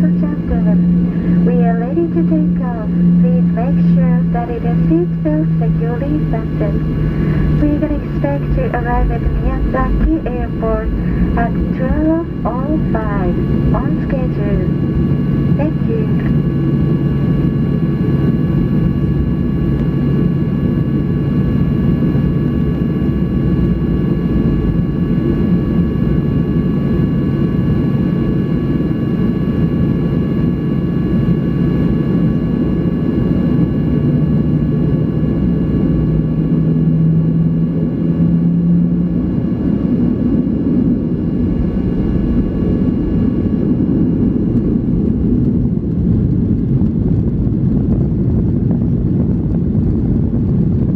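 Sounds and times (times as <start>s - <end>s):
faint steady whines: 0.0s - 50.9s
jet engine cabin rumble: 0.0s - 50.9s
low hum: 0.0s - 50.9s.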